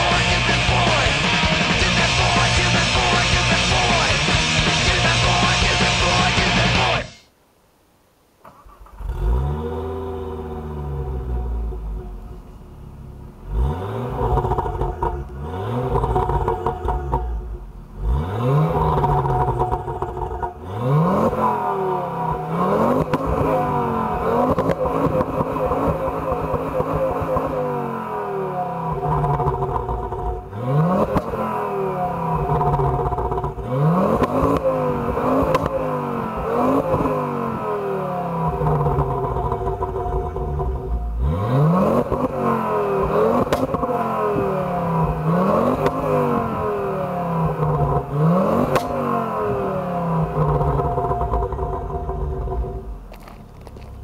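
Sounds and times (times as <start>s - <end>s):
car exhaust revving: 0.0s - 7.2s, 8.7s - 54.0s.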